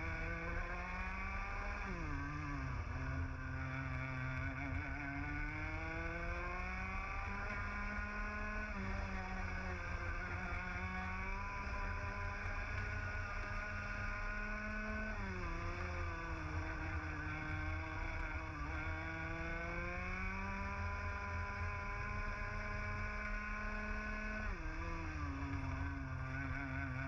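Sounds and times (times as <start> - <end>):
go-kart two-stroke engine: 0.0 - 27.0.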